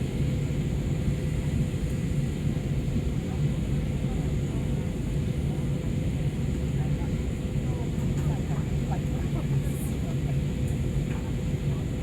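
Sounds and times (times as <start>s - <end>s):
aircraft engine rumble in cabin: 0.0s - 12.0s.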